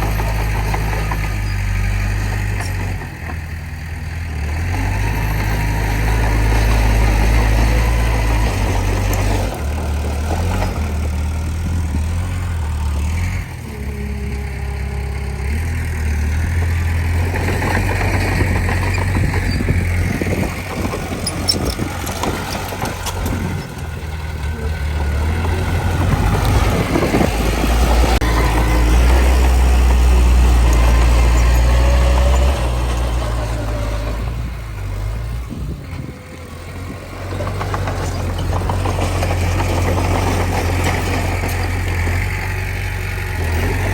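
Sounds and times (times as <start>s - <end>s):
diesel engine rumble: 0.0s - 43.9s.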